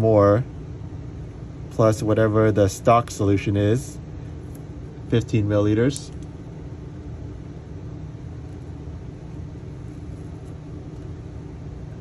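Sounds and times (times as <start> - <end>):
low room tone hum and rumble: 0.0 - 12.0.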